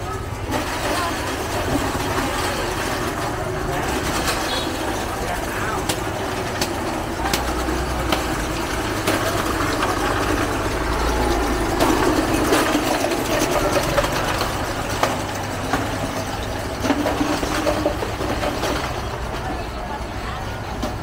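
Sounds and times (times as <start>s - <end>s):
engine idling: 0.0s - 21.0s
market noise: 0.0s - 21.0s
sharp clicks and knocks: 0.5s - 19.5s.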